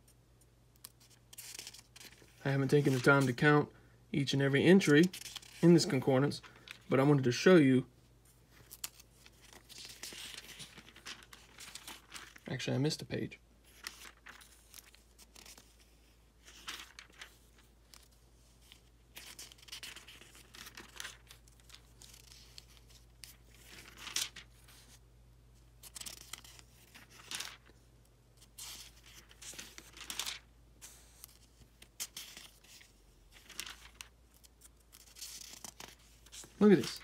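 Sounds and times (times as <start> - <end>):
thin pages turning: 0.8 - 3.5, 4.7 - 7.5, 8.3 - 12.5, 13.6 - 25.0, 25.8 - 27.8, 28.4 - 37.0.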